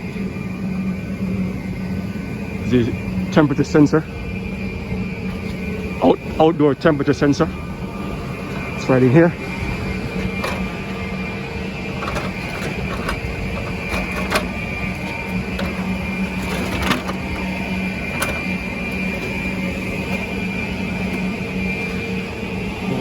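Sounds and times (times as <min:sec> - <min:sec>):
mechanical drone with whine: 0:00.0 - 0:23.0.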